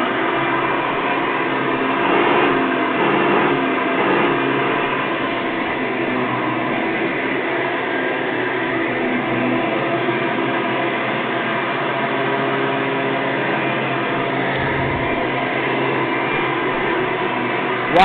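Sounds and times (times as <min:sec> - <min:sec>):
upright vacuum cleaner running: 0:00.0 - 0:18.0.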